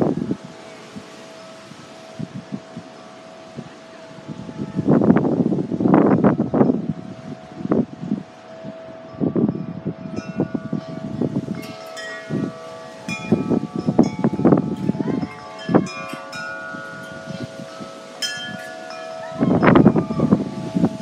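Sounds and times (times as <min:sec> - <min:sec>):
wind buffeting microphone: 0:00.0 - 0:21.0
wind chimes ringing: 0:00.0 - 0:21.0.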